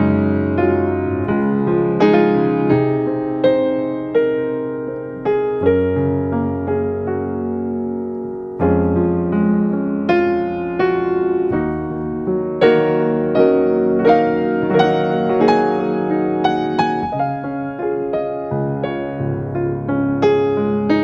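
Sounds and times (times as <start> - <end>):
soft piano chords: 0.0 - 21.0.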